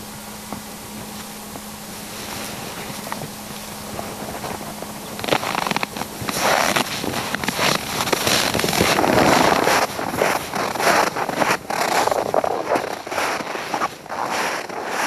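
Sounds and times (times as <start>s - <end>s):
boots crunching through snow: 0.6s - 15.0s.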